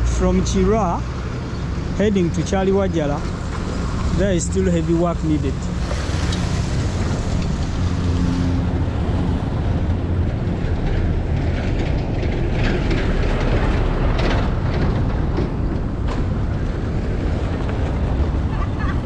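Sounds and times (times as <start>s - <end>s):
road and wind noise: 0.0s - 19.0s
vehicle engine droning: 0.0s - 19.0s.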